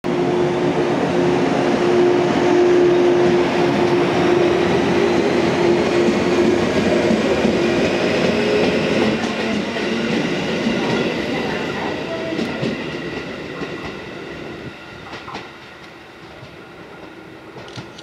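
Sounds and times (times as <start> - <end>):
train cars running noise: 0.1 - 18.0.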